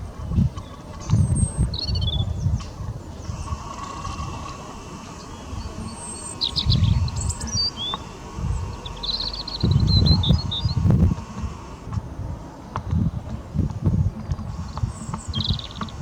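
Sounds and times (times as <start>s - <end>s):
low rumbles: 0.0s - 16.0s
small birds chirping: 0.0s - 16.0s.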